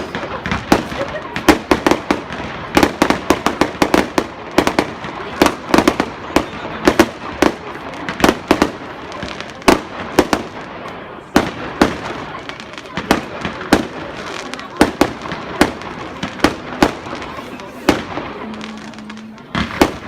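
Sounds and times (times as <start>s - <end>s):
fireworks crackle: 0.0s - 20.0s
fireworks exploding: 0.0s - 20.0s.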